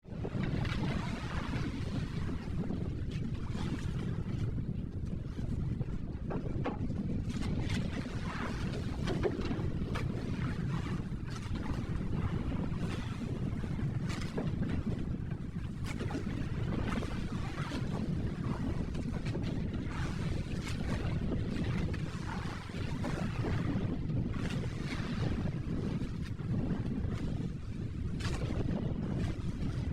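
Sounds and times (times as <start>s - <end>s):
water lapping against boat: 0.0s - 29.9s
wind buffeting microphone: 0.0s - 29.9s.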